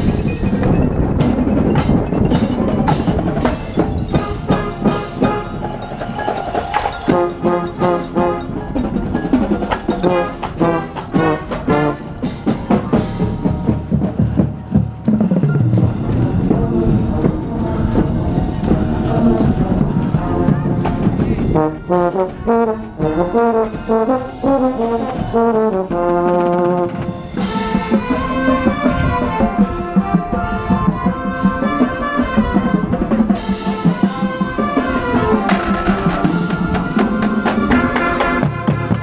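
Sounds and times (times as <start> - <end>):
brass melodies: 0.0 - 39.0
marching band drums: 0.0 - 39.0.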